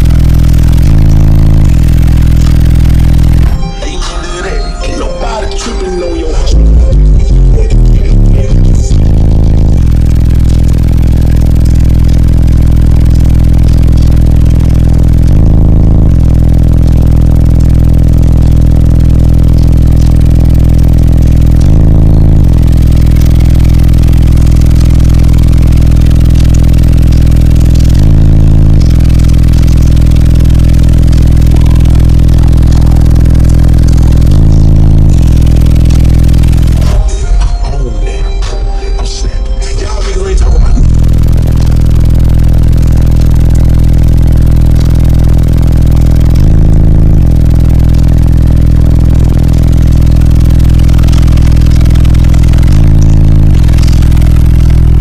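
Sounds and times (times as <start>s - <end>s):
loud bass music from subwoofers: 0.0s - 55.0s.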